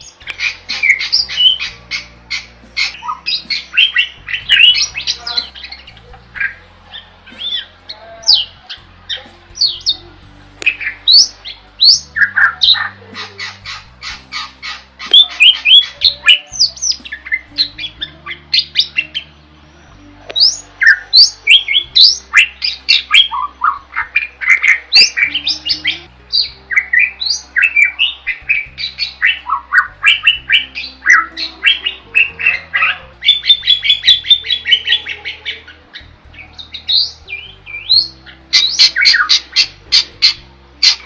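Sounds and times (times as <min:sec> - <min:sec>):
starling chattering song: 0:00.0 - 0:41.0.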